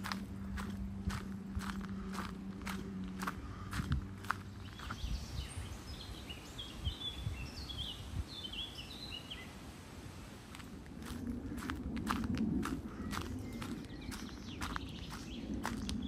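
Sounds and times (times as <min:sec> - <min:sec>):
steady low rumble: 0:00.0 - 0:08.4, 0:09.5 - 0:16.0
songbird chirping: 0:00.0 - 0:09.7, 0:12.7 - 0:16.0.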